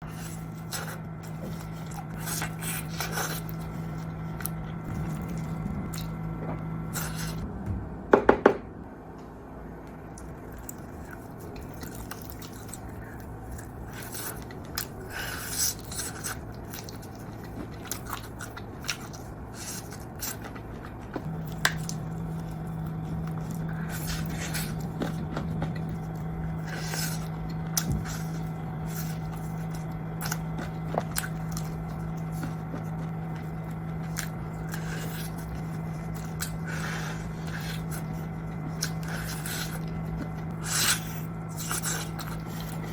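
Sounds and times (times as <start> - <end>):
steady low hum: 0.0 - 42.9
crunchy bites and chewing: 0.1 - 7.4, 10.5 - 42.9.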